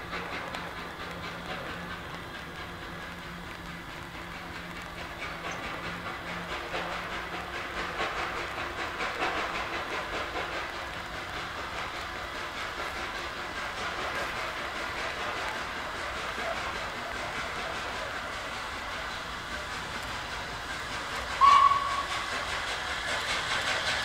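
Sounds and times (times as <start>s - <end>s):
steady steam hiss: 0.0s - 24.0s
steam locomotive exhaust beat: 0.0s - 24.0s.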